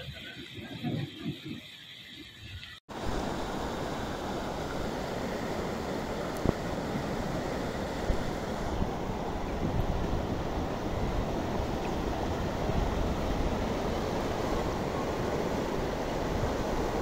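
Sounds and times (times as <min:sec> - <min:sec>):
wind buffeting microphone: 0:00.0 - 0:02.0, 0:04.0 - 0:17.0
floodwater rushing: 0:00.0 - 0:17.0.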